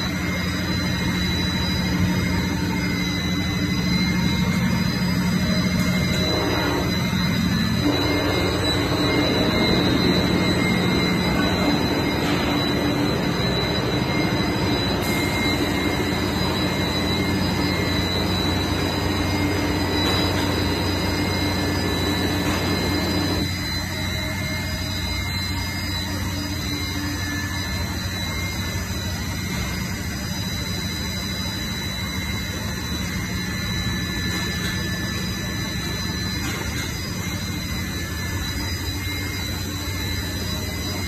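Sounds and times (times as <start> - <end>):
high machine whine: 0.0 - 41.0
machinery drone: 0.0 - 41.0.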